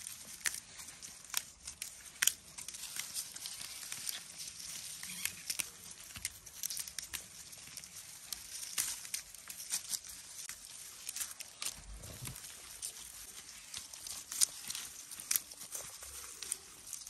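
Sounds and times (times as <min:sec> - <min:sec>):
leaves rustling: 0:00.0 - 0:17.0
stems snapping: 0:00.0 - 0:17.0.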